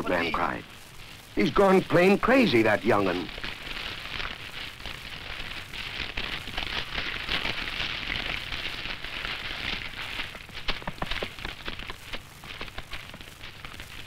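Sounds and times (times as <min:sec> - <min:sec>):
burning reeds crackling: 0:00.0 - 0:14.0.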